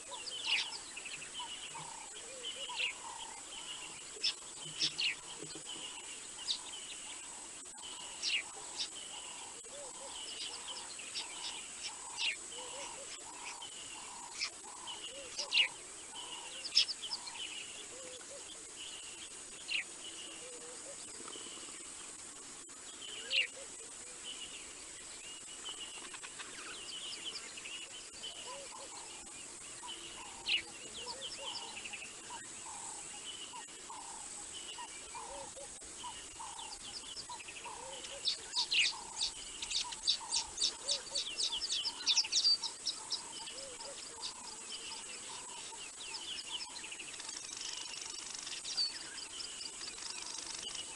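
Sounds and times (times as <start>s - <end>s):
wild birds calling: 0.0s - 50.9s.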